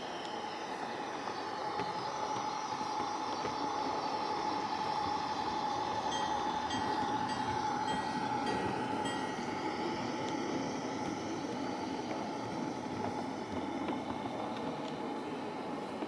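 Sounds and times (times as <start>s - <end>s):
model train running with whine: 0.0s - 16.0s.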